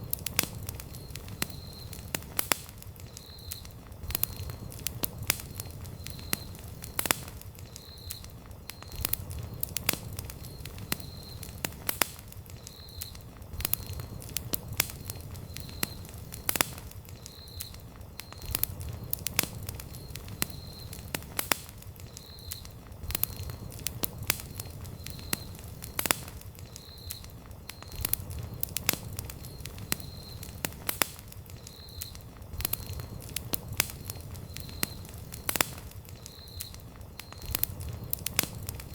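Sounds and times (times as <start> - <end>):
campfire pops and snaps: 0.0 - 38.9
low rumble of flames: 0.0 - 38.9.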